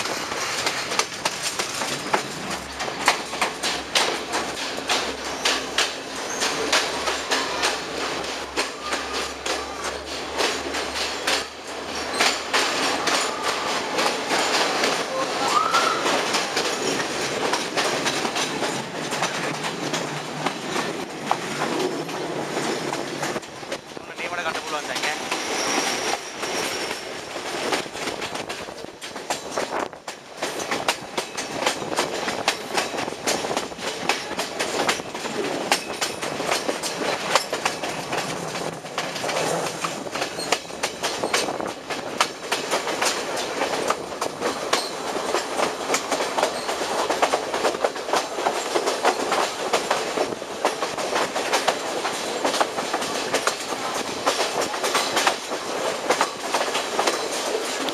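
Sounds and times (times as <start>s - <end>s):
train rolling noise: 0.0s - 57.9s
wheels clattering over rails: 0.0s - 57.9s.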